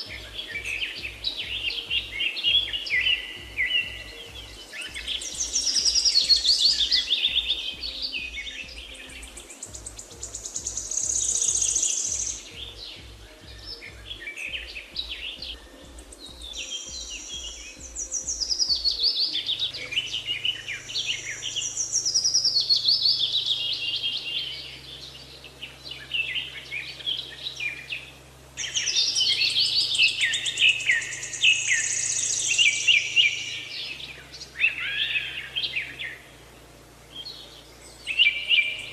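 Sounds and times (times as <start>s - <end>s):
faint low music: 0.0s - 38.9s
songbirds chirping and trilling: 0.0s - 38.9s.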